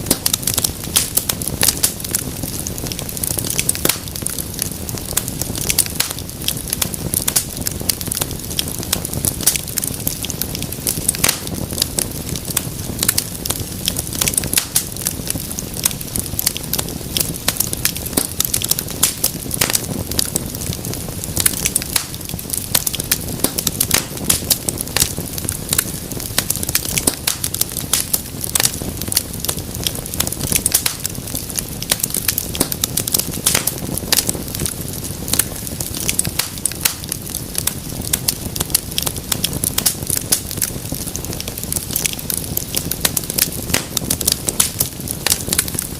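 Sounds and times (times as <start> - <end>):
low rumble of flames: 0.0 - 45.9
wood fire crackling: 0.0 - 45.9.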